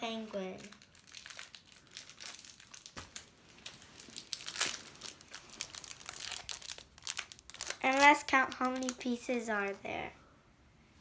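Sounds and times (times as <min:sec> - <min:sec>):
plastic wrapper crinkling: 0:00.4 - 0:09.9.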